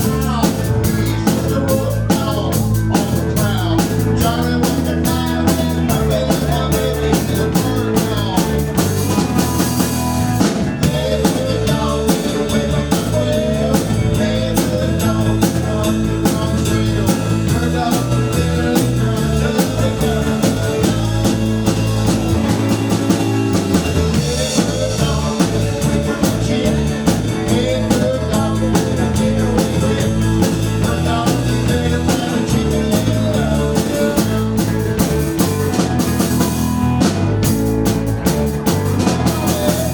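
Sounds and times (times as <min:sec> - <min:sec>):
drum kit beat: 0:00.0 - 0:39.9
live rock and roll band: 0:00.0 - 0:39.9.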